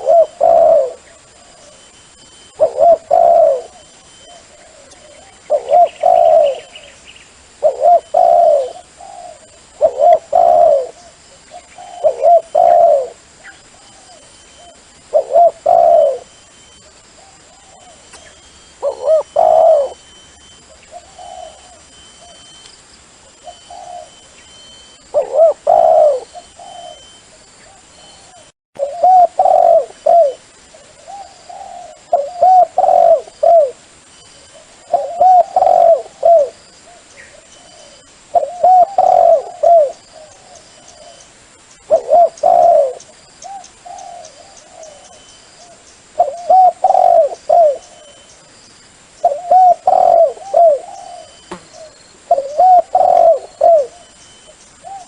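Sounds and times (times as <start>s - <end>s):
dove cooing: 0.0s - 22.6s, 23.2s - 33.8s, 34.4s - 41.3s, 41.9s - 48.4s, 49.2s - 55.0s.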